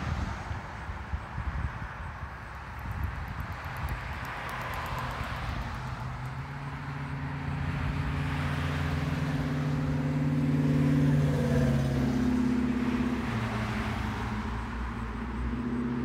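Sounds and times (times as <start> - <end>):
vehicle passing by: 2.8 - 16.0.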